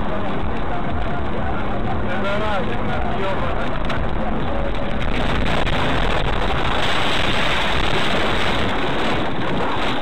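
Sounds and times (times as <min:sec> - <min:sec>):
road noise: 0:00.0 - 0:10.0
wind noise: 0:00.0 - 0:10.0.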